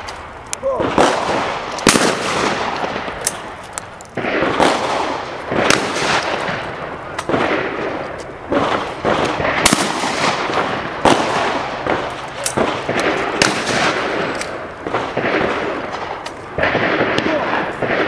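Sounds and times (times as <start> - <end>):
shotgun shots with echo: 0.7 - 3.5, 4.2 - 18.0.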